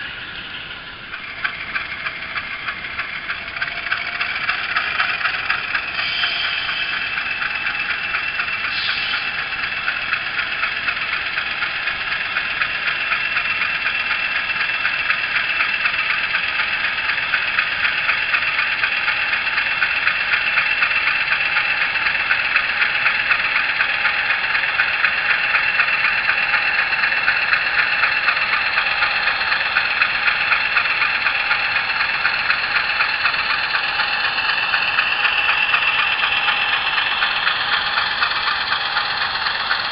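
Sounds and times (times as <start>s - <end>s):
diesel engine sound from small speaker: 0.0s - 39.9s.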